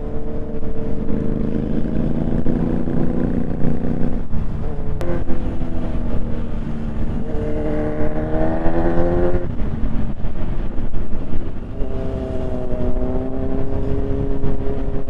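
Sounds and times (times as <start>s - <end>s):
motorcycle engine revving: 0.0s - 9.8s, 10.9s - 15.0s
wind rumble on microphone: 0.0s - 15.0s.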